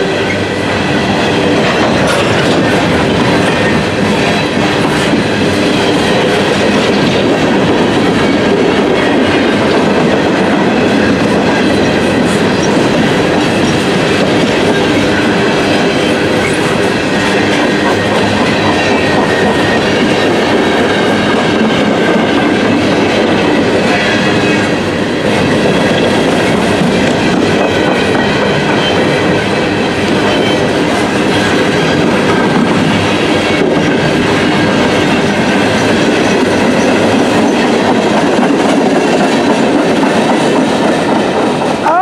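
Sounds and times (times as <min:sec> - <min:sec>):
steel wheels running on rails: 0:00.0 - 0:42.0.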